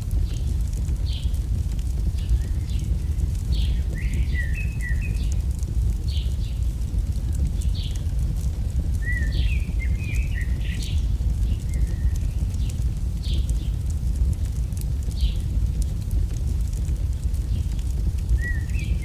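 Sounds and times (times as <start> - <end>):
campfire crackling: 0.0 - 19.0
small birds chirping: 0.1 - 19.0.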